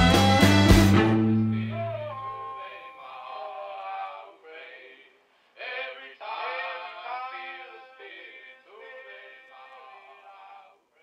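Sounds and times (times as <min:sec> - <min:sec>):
muffled singing: 0:01.3 - 0:11.0.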